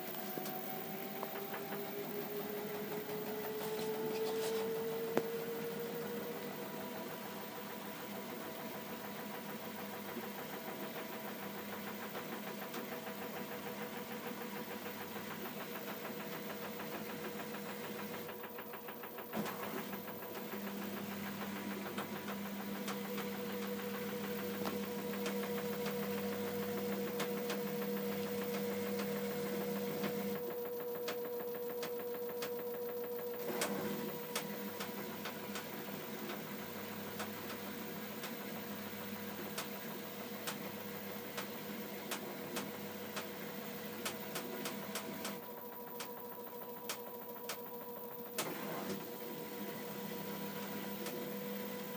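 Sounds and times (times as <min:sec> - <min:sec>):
washer-dryer humming and whining: 0:00.0 - 0:51.9.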